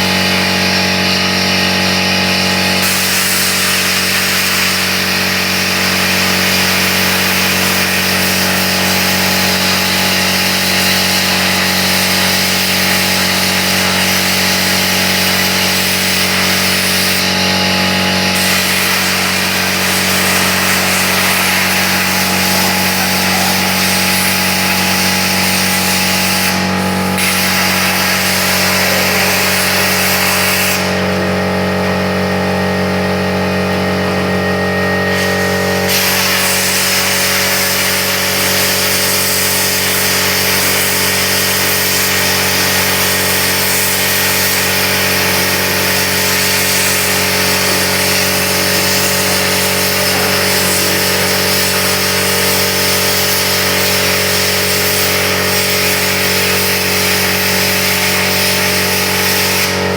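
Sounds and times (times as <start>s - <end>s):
machine hum: 0.0s - 59.9s
plasma cutter hiss: 0.1s - 1.7s, 2.3s - 31.3s, 35.1s - 59.9s.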